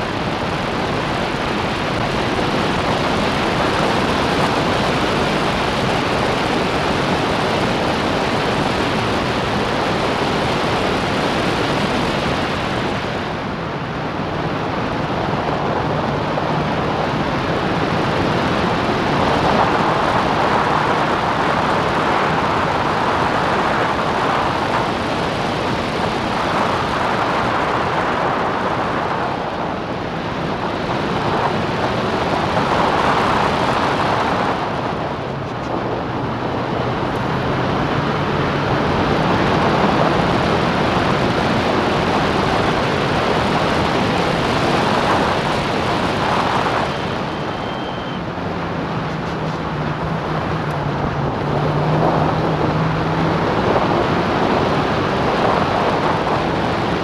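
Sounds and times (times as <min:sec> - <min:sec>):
racing car engine roar: 0:00.0 - 0:57.0
wind rush on microphone: 0:00.0 - 0:57.0.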